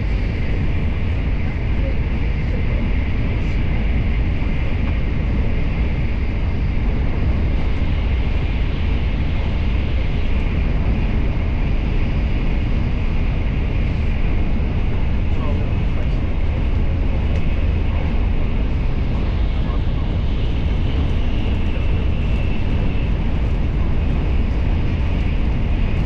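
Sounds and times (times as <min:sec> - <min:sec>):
train running from inside carriage: 0:00.0 - 0:10.5, 0:13.4 - 0:26.0.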